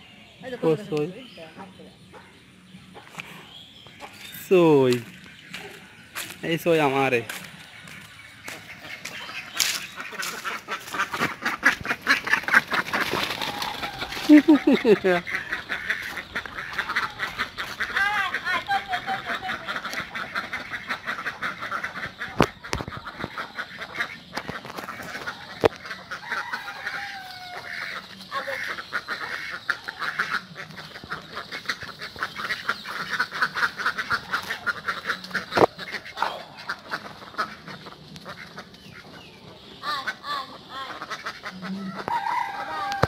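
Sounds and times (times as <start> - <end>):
ducks quacking: 0.4 - 43.0.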